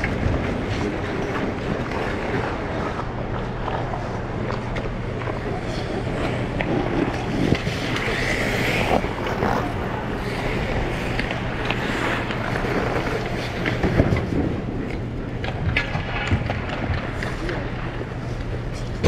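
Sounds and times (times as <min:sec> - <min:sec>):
ice skates scraping on ice: 0:00.0 - 0:19.0
noisy hum: 0:00.0 - 0:19.0.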